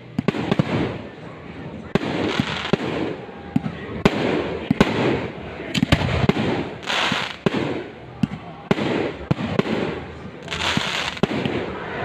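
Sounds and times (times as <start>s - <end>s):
fireworks crackling: 0.0s - 1.2s, 1.9s - 3.3s, 4.0s - 8.0s, 8.6s - 11.8s
firework bangs and pops: 0.1s - 1.1s, 2.0s - 11.7s.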